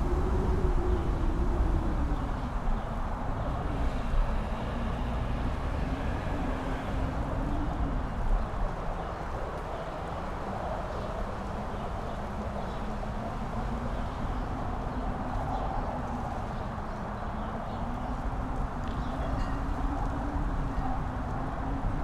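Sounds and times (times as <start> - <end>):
strong wind howling: 0.0 - 22.0.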